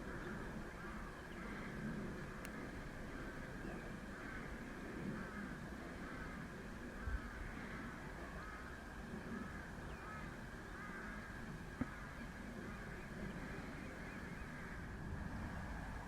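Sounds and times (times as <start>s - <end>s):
birds calling: 0.0s - 15.0s
low rumble of wind: 0.0s - 16.0s.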